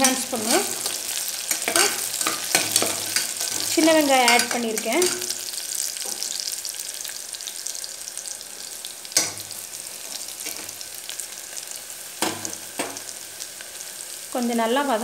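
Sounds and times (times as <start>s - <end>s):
shallots sizzling in hot oil: 0.0s - 15.0s.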